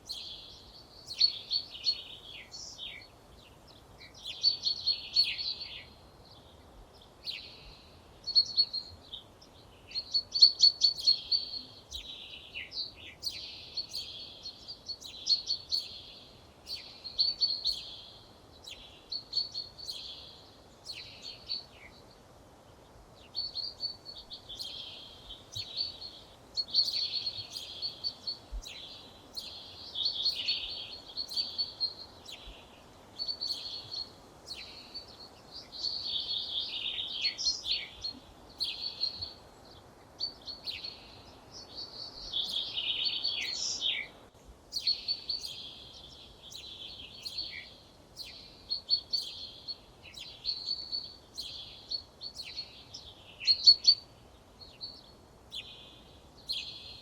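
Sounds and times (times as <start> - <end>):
faint background hiss: 0.0 - 57.0
songbird singing: 0.0 - 57.0.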